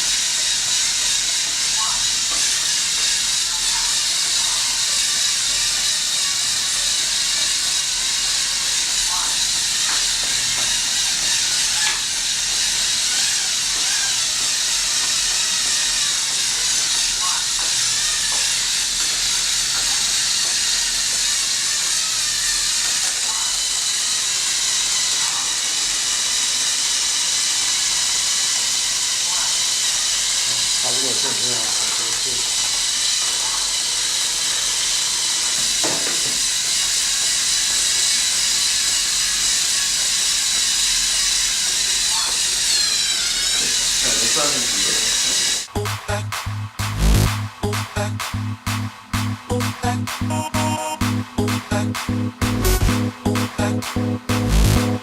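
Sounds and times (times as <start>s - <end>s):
robotic vacuum fan hissing: 0.0s - 55.0s.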